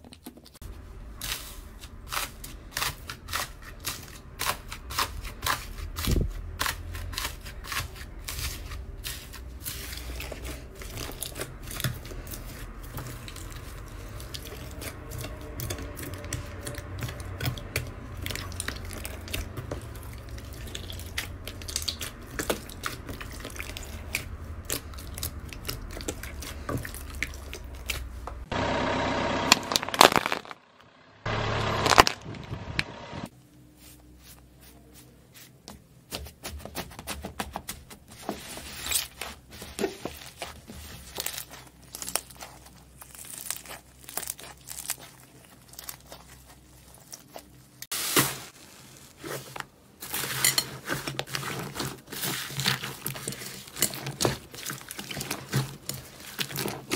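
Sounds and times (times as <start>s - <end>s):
hands squishing sticky slime: 0.0s - 28.5s, 33.8s - 56.9s.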